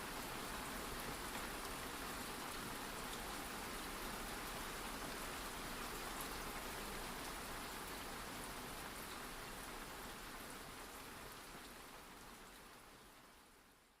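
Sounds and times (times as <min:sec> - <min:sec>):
steady rain on a surface: 0:00.0 - 0:14.0.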